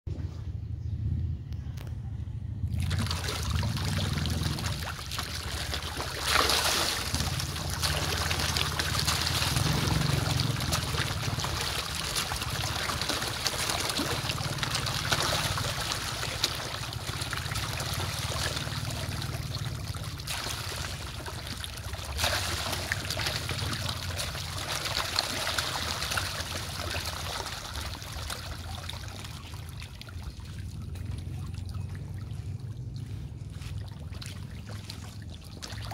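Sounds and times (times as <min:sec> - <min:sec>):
fish thrashing and splashing water: 0:02.7 - 0:35.9.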